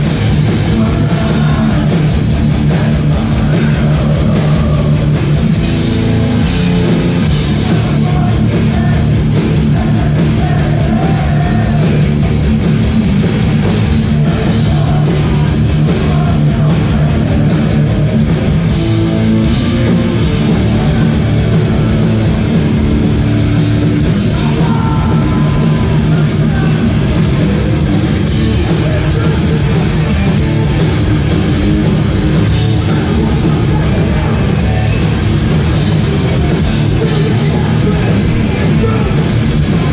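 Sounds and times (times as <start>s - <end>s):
bass guitar: 0.0s - 39.9s
distorted electric guitars: 0.0s - 39.9s
drum kit: 0.0s - 39.9s.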